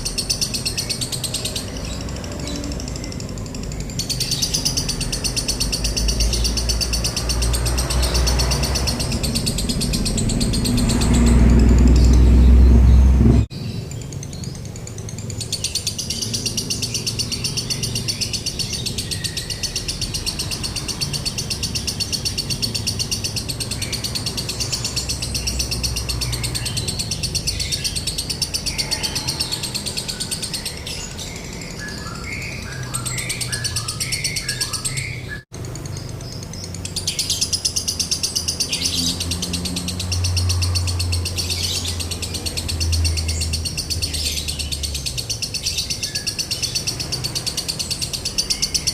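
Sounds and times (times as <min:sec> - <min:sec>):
low bird chirps: 0:00.0 - 0:48.9.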